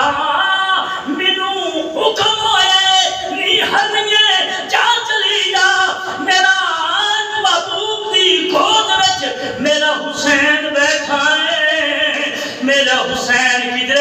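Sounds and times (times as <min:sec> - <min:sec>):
man preaching in chanted voice: 0:00.0 - 0:14.0.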